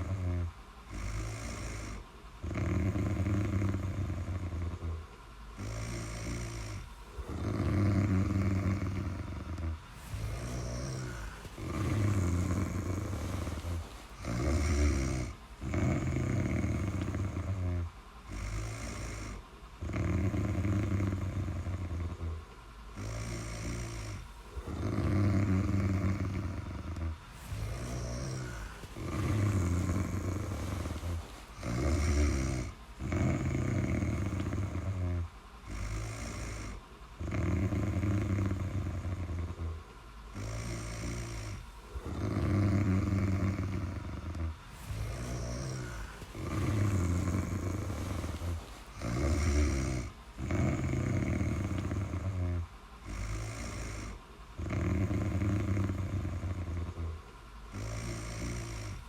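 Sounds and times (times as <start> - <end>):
person snoring: 0.0 - 59.0.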